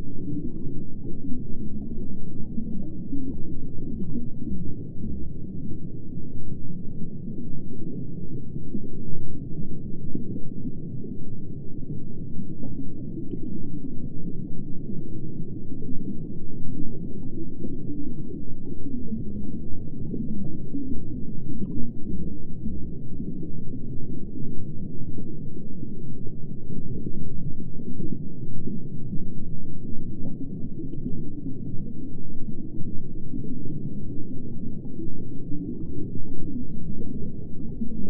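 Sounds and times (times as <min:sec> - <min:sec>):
muffled underwater rumble: 0:00.0 - 0:38.0.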